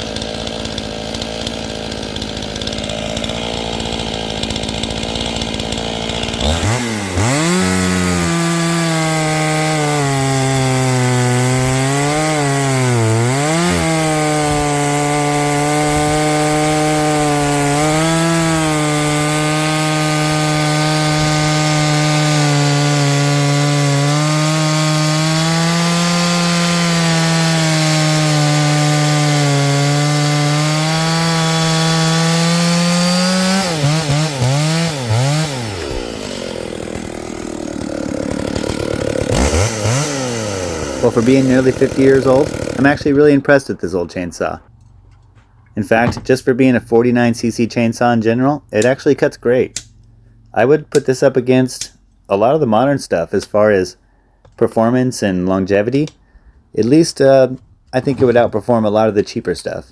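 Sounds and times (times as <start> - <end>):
chainsaw cutting firewood: 0.0 - 48.0, 48.8 - 51.2.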